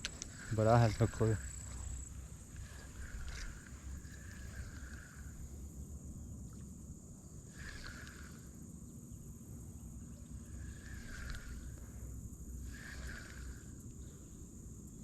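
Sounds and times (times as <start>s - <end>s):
high insect-like whine: 0.0s - 15.0s.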